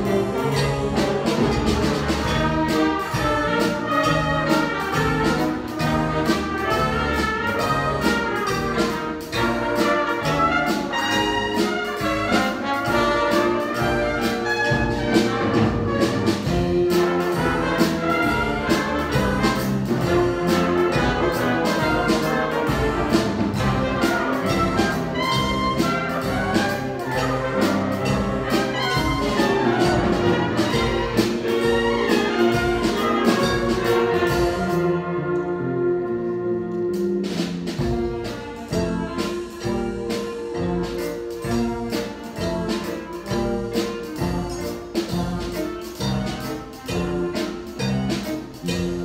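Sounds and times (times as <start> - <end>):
jazz big band playing blues: 0.0 - 49.0.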